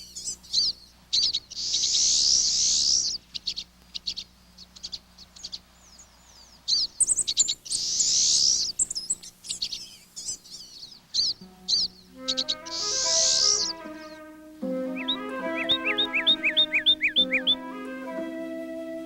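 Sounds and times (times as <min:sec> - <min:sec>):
buzzy rapid bird trills: 0:00.0 - 0:17.7
songbirds chirping: 0:00.0 - 0:19.0.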